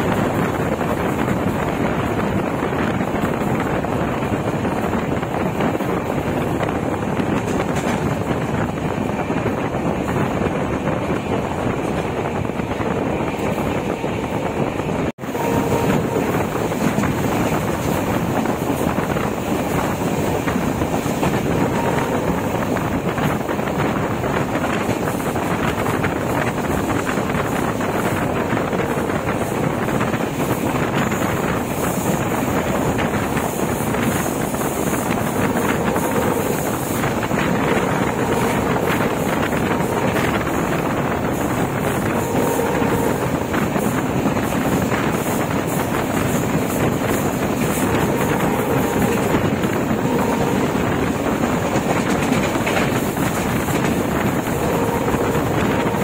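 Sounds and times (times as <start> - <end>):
train running noise: 0.0 - 56.0
wind on microphone: 0.0 - 56.0.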